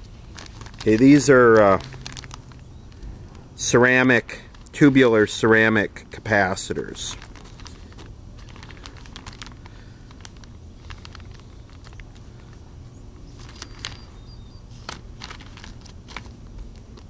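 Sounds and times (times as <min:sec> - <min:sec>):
low steady rumble: 0:00.0 - 0:17.0
plastic packaging crinkling: 0:00.0 - 0:17.0.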